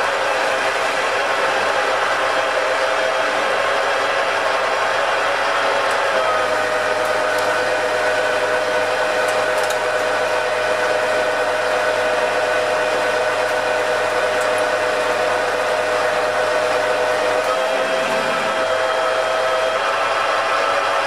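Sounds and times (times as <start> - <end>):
metal lathe motor running: 0.0 - 21.0.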